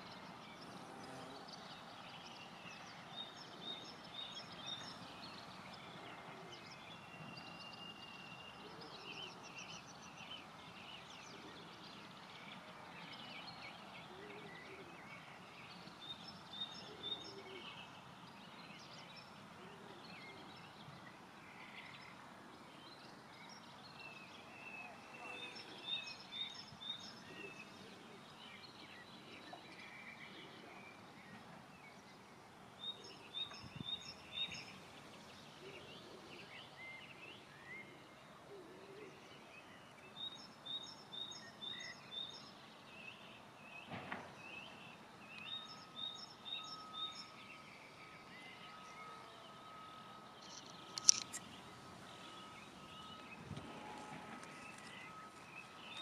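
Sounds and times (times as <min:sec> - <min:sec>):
outdoor background noise: 0:00.0 - 0:56.0
songbirds singing and chirping: 0:00.0 - 0:56.0.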